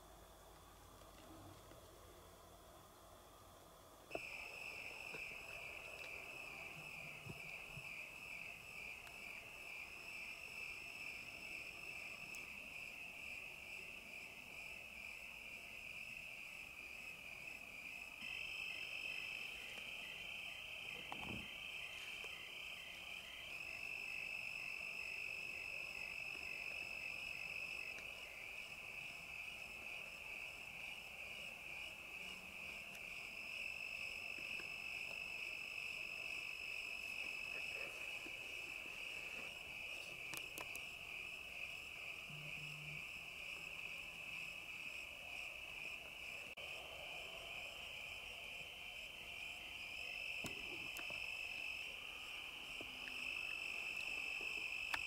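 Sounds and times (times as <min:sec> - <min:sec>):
crickets trilling: 0:01.8 - 0:55.0.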